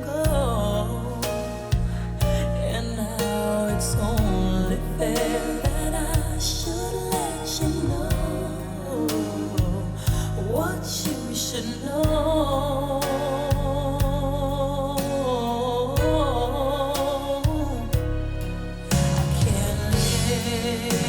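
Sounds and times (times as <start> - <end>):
bass line: 0.0 - 21.0.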